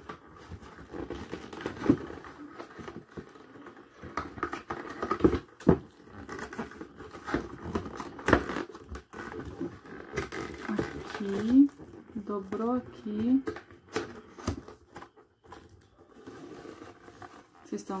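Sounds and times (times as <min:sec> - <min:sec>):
cardboard rustling and scraping: 0:00.0 - 0:18.0.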